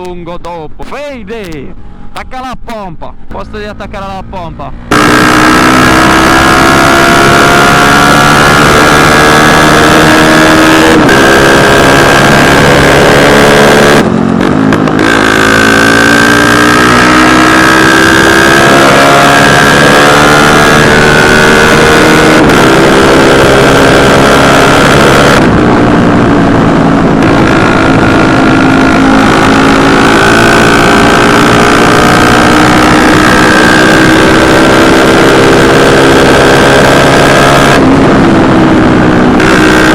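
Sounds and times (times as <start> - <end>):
motorcycle engine accelerating hard: 3.2 - 39.9.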